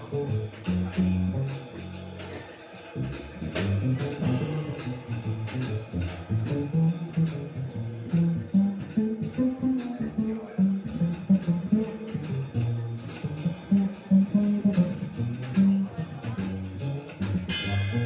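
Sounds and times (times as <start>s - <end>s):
upright bass walking: 0.0s - 2.4s, 3.0s - 18.0s
drum kit cymbals: 0.0s - 18.0s.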